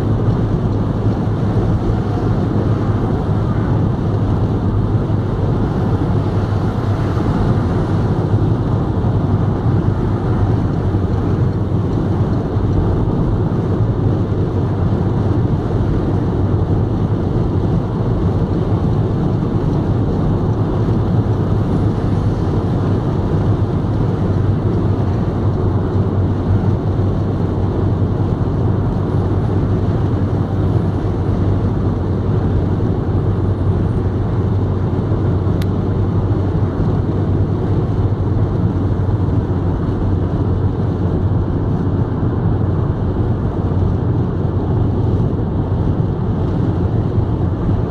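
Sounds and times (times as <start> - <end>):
car engine hum: 0.0 - 47.9
wind noise: 0.0 - 47.9.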